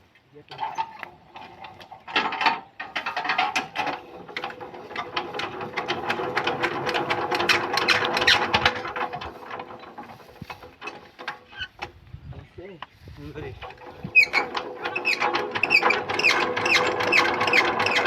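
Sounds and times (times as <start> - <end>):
tiller engine cranking clicks: 0.5 - 12.0, 13.5 - 18.0.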